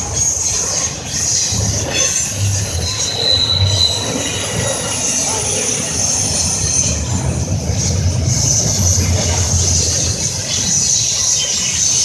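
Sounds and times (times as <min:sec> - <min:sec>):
high wheel squeal: 0:00.0 - 0:12.0
low rumble of wheels on rail: 0:00.0 - 0:12.0.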